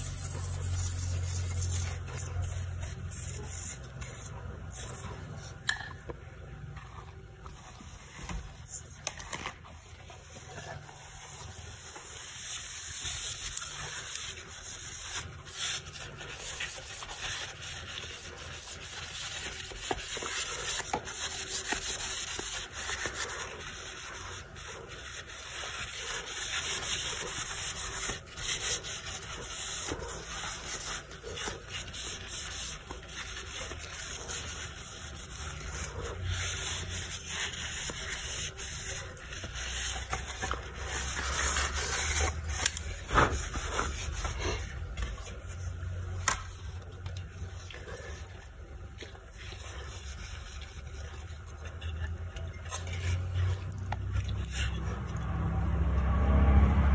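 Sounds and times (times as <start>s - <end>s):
hand scrubbing rasping rub: 0.0s - 5.7s, 7.0s - 55.5s.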